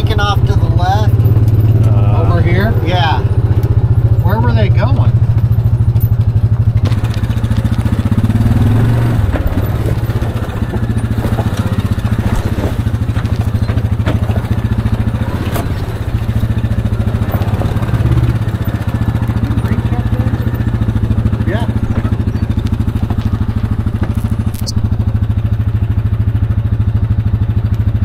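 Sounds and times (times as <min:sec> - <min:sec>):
sharp knocks and clatter: 0:00.0 - 0:01.9, 0:05.0 - 0:25.7
utility vehicle engine running: 0:00.0 - 0:28.0.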